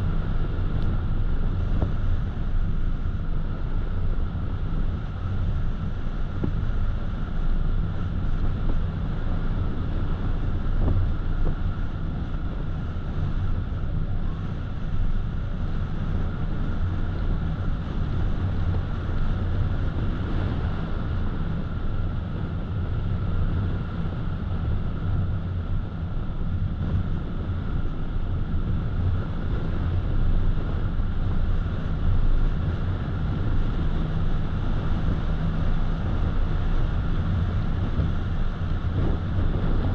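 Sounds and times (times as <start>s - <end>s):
thin steady whine: 0.0s - 39.9s.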